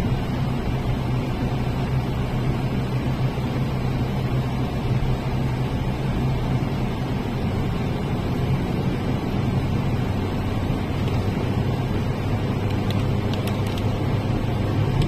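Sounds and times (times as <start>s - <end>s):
mechanical engine drone: 0.0s - 15.0s.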